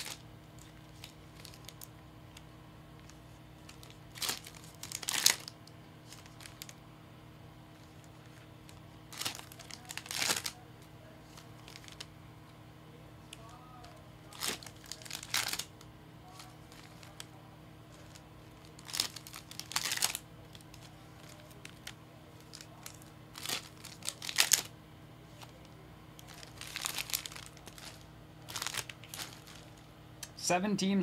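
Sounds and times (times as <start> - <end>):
foil wrappers crinkling and tearing: 0.0 - 2.4, 3.0 - 6.8, 7.7 - 10.6, 11.2 - 12.1, 13.3 - 24.7, 25.3 - 29.9.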